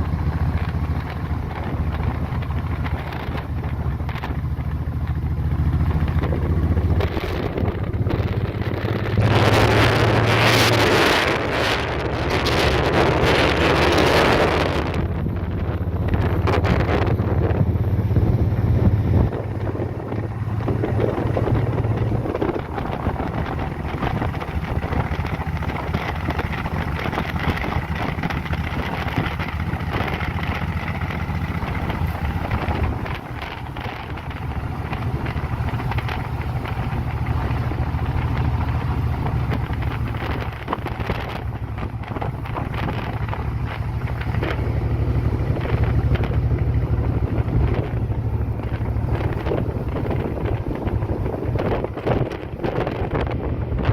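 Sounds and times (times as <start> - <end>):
motorcycle engine drone: 0.0 - 53.9
wind rushing over microphone: 0.0 - 53.9.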